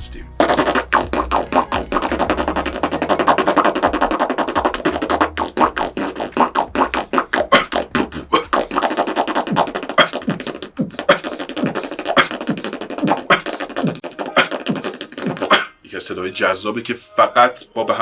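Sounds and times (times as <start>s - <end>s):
person beatboxing: 0.0s - 15.7s
low downward-sliding mouth notes: 0.3s - 14.8s.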